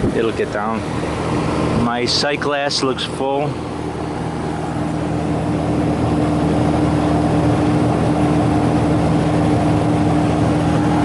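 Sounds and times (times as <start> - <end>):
compressor humming: 0.0 - 11.0
condenser fan rushing air: 0.0 - 11.0.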